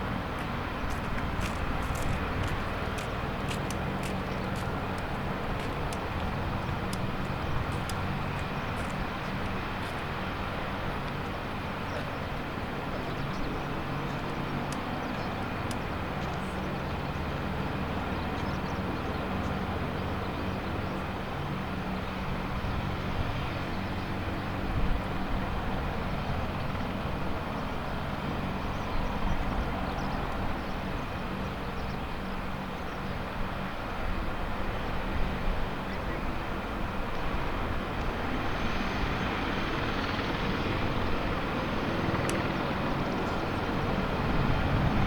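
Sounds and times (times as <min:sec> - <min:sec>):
helicopter engine and rotor: 0:00.0 - 0:45.0.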